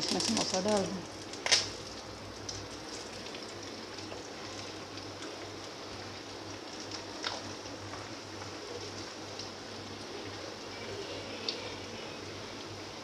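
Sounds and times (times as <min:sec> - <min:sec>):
sharp oil crackle: 0:00.0 - 0:12.8
oil sizzling and bubbling: 0:00.0 - 0:13.0.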